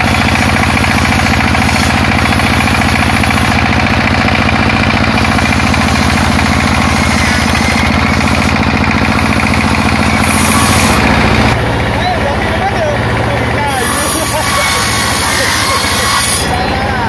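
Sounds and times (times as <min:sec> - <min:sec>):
engine pounding: 0:00.0 - 0:17.0.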